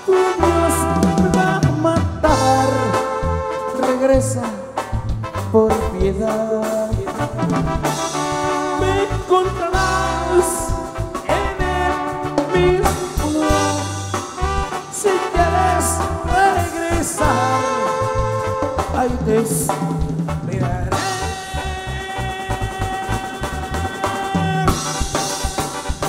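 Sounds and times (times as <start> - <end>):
drums: 0.0 - 26.0
trombones and saxophone melody: 0.0 - 26.0
pulsing bass: 0.4 - 3.5, 4.1 - 26.0.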